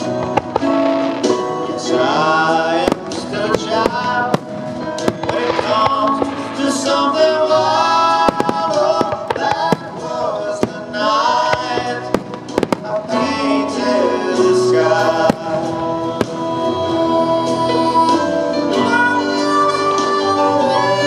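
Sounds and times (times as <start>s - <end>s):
fireworks banging: 0.0s - 17.2s
music with singing voice: 0.0s - 21.0s.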